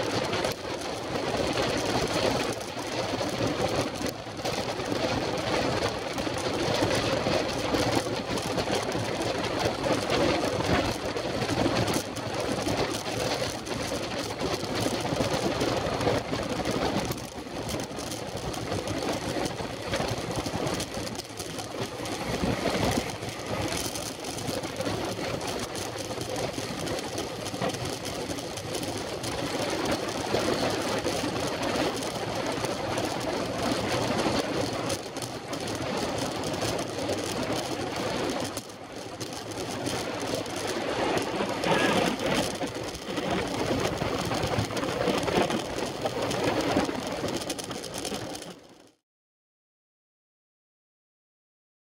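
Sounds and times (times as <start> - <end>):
wind buffeting microphone: 0.0 - 48.5
bike tyres and drivetrain rattling: 0.0 - 49.0.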